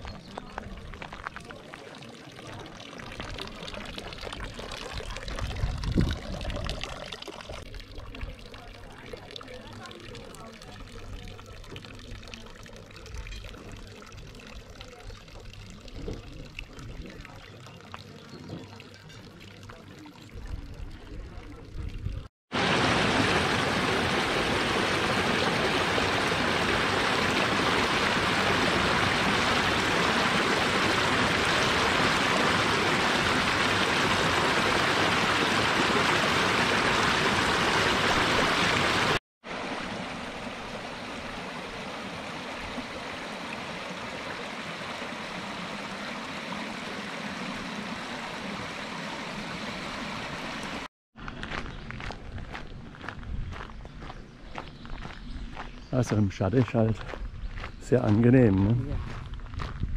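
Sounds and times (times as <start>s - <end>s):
brook splashing over stones: 0.0s - 20.4s, 22.5s - 50.9s.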